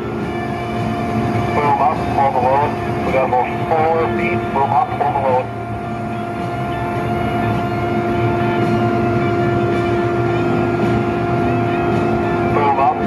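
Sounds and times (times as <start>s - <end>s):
heavy engine whine and rumble: 0.0s - 13.0s.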